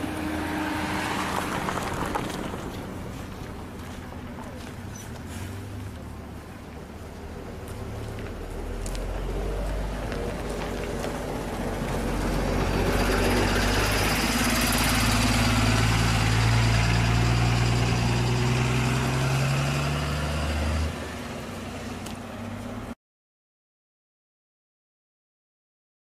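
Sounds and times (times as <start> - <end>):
large vehicle engine running: 0.0 - 23.0
road noise: 0.0 - 23.0.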